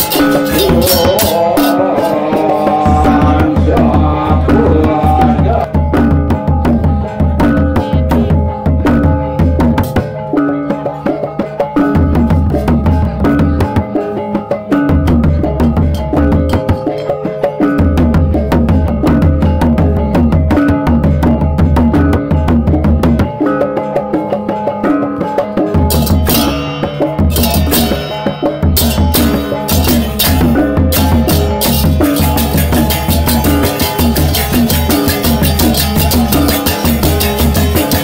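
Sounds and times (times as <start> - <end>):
pulsing low drum beat: 0.0 - 23.4, 25.2 - 38.0
gamelan tuned percussion: 0.0 - 38.0.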